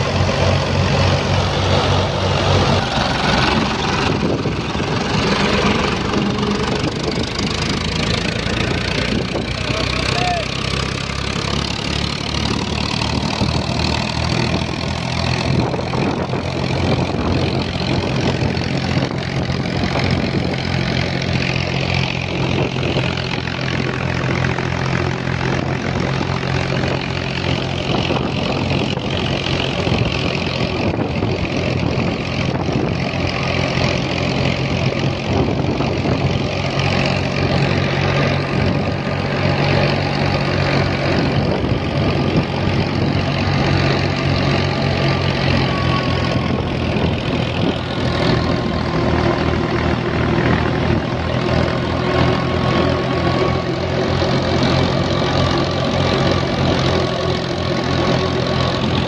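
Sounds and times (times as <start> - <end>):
threshing machinery rushing: 0.0 - 59.0
tractor engine hum: 0.0 - 59.0.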